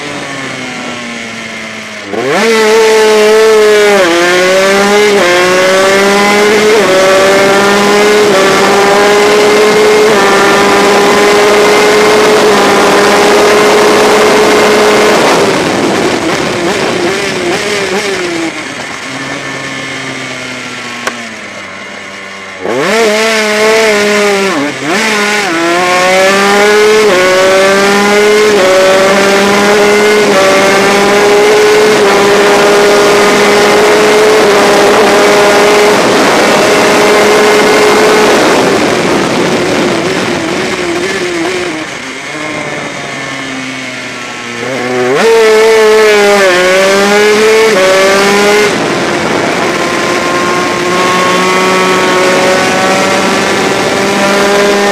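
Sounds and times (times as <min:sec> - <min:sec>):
two-stroke race engine revving: 0:00.0 - 0:20.1, 0:22.6 - 0:54.9
wind rush: 0:04.0 - 0:19.5, 0:23.4 - 0:54.9.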